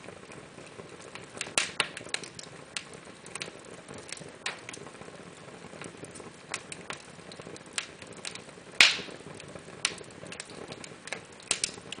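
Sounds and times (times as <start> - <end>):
fire crackling and popping: 0.0 - 12.0
soft fire hiss: 0.0 - 12.0.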